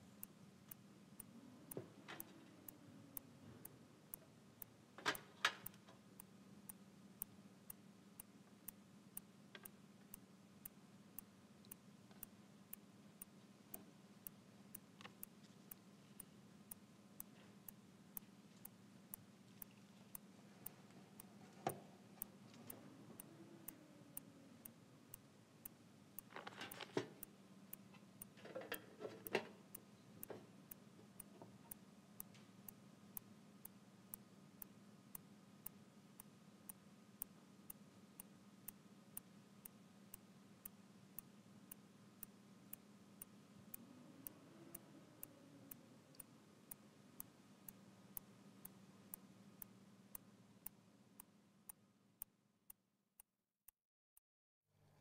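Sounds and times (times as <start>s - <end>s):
clock ticking: 0.0s - 51.8s
low steady hum: 0.0s - 52.7s.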